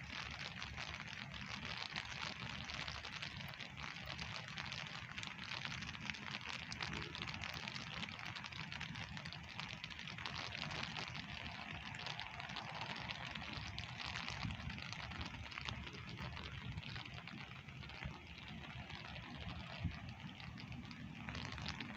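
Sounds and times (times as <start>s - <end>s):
pouring rain: 0.0s - 21.9s.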